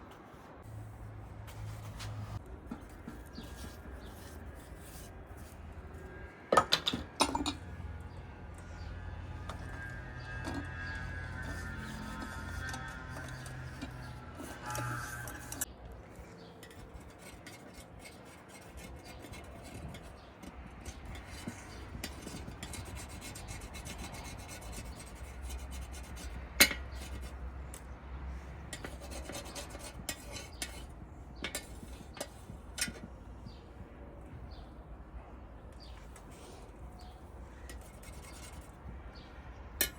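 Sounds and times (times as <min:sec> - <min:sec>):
rasping and rubbing: 0:00.5 - 0:06.3, 0:07.7 - 0:15.7, 0:16.3 - 0:27.4, 0:28.7 - 0:33.0, 0:36.1 - 0:38.9.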